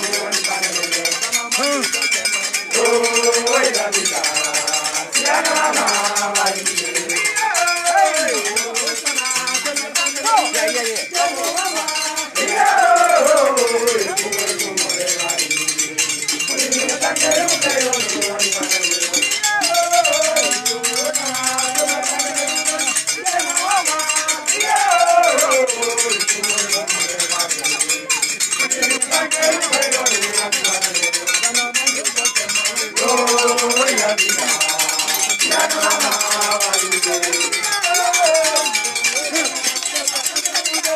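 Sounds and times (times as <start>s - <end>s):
beat struck on metal bell: 0.0s - 40.9s
group of voices singing: 0.0s - 40.9s.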